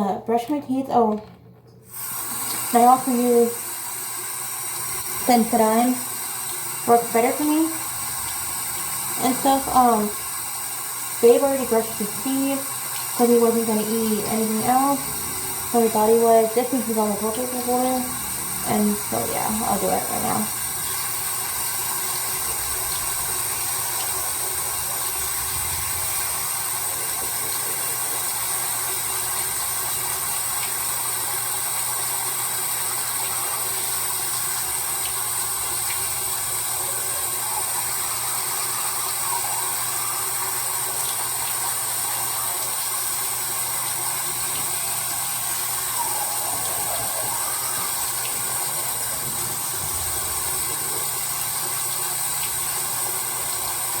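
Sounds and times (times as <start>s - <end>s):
water running from a tap: 1.8s - 54.0s.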